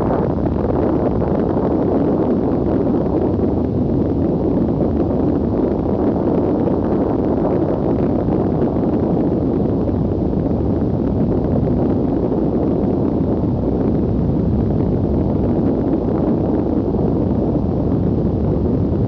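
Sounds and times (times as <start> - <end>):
explosion rumble with crackle: 0.0 - 19.0.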